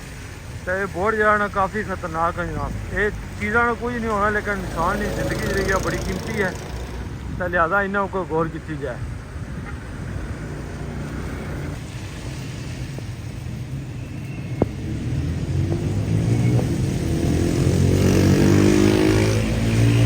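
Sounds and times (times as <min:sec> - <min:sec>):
tyre hiss on wet road: 0:00.0 - 0:20.0
vehicle engine passing: 0:00.1 - 0:20.0.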